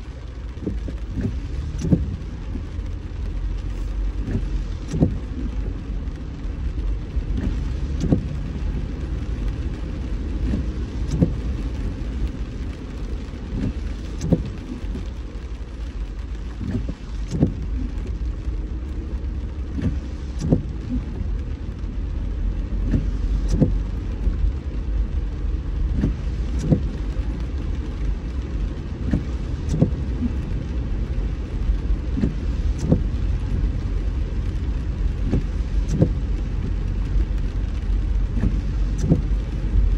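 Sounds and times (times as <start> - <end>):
car driving in rain: 0.0 - 39.9.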